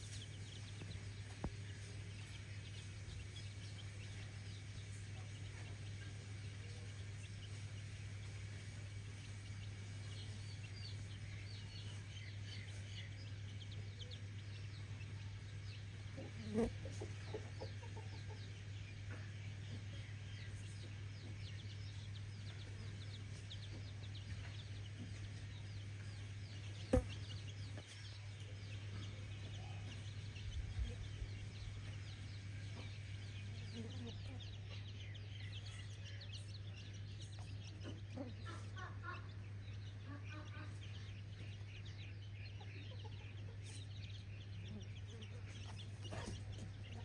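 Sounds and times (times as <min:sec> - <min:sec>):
chickens clucking: 0:00.0 - 0:47.0
steady low hum: 0:00.0 - 0:47.0.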